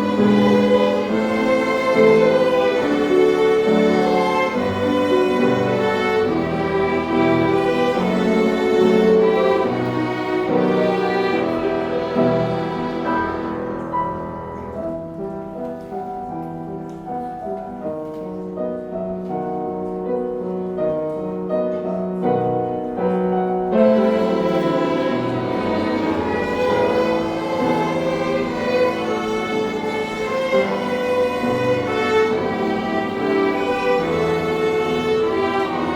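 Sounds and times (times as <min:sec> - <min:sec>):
string orchestra playing a hymn: 0:00.0 - 0:35.9.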